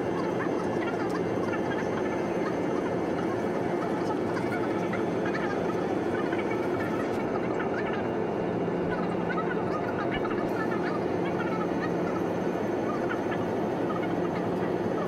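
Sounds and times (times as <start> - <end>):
airplane cabin jet engine drone: 0.0 - 15.0.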